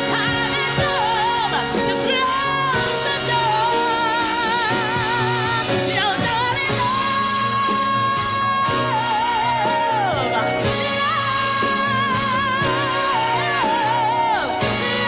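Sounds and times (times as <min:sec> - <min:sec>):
live band playing: 0:00.0 - 0:15.0
woman singing ballad: 0:00.0 - 0:15.0.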